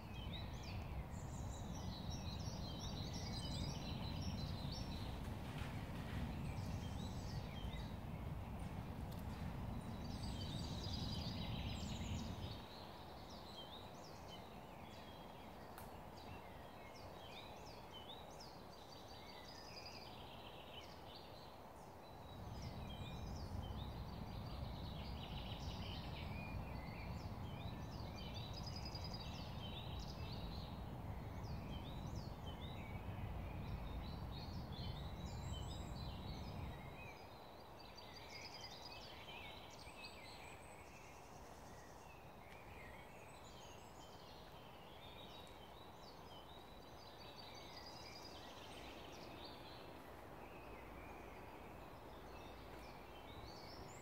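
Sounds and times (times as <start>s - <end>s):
woodland birds singing: 0.0s - 54.0s.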